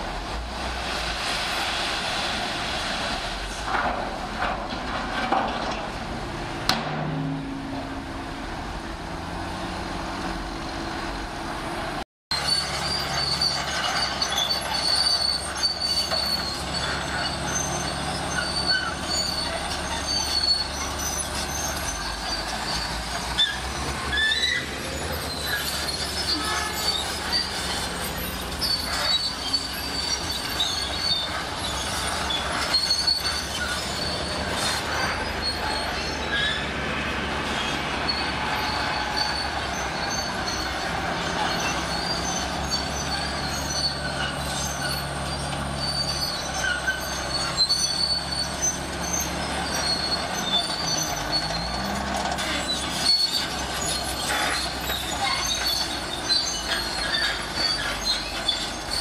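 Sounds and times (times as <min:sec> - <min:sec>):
diesel engine under load: 0:00.0 - 0:59.0
steel tracks squealing and clanking: 0:00.0 - 0:59.0.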